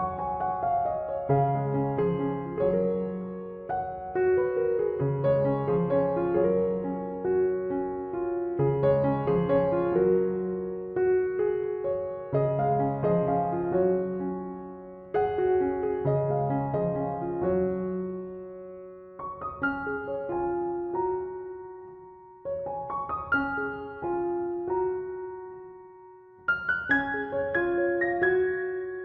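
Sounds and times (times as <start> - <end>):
soft piano music: 0.0 - 29.0.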